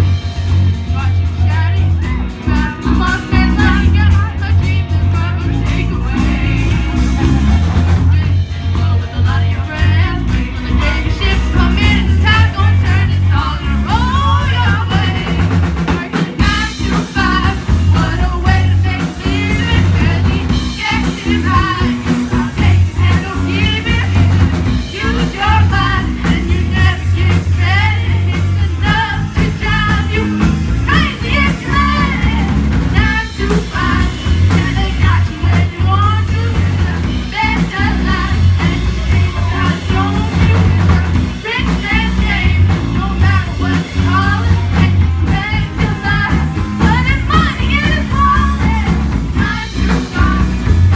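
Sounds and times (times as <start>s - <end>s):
bass guitar: 0.0s - 50.9s
drums: 0.0s - 50.9s
electric guitar: 0.0s - 50.9s
person singing: 0.7s - 50.9s.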